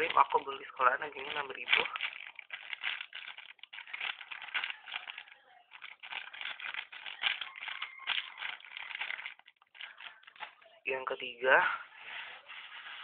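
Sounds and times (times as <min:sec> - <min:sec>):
plastic wrapper crackling: 0:00.0 - 0:10.8.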